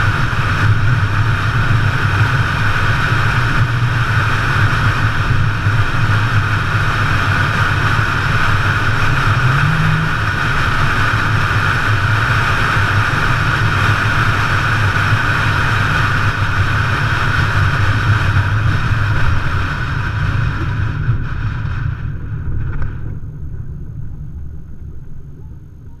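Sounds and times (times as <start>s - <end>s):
low engine hum: 0.0s - 26.0s
road and rattle noise: 0.0s - 26.0s.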